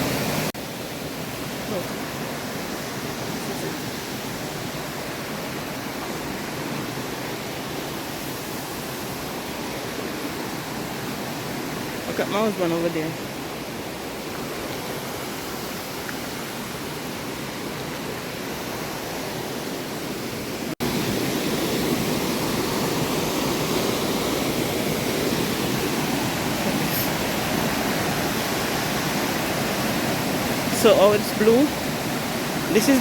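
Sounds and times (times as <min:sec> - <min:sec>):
river water rushing over rocks: 0:00.0 - 0:33.0.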